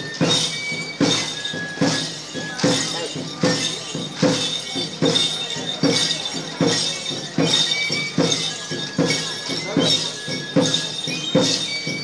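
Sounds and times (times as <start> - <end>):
clattering jingling rattle: 0.0 - 12.0.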